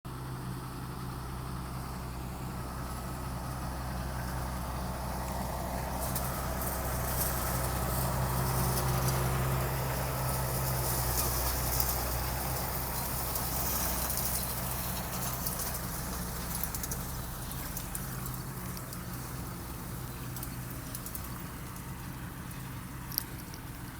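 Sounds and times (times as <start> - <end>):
tractor engine running: 0.0 - 23.9
hay machinery rattling: 3.1 - 23.9.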